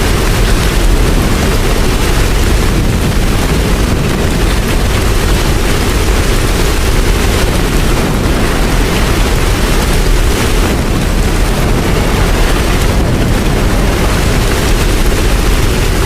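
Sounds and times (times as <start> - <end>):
deep low rumble: 0.0 - 16.0
heavy rain: 0.0 - 16.0.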